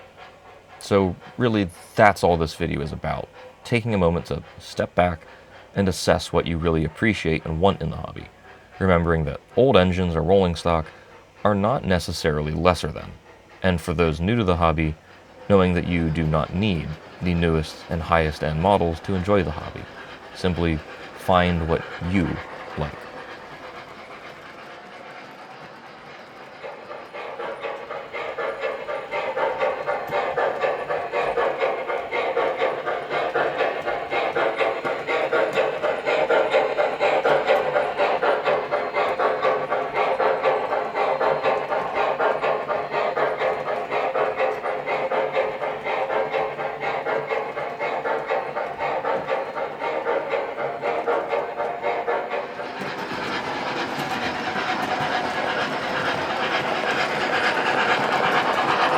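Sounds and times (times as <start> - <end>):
model train wheels clattering on rail: 0.0 - 58.9.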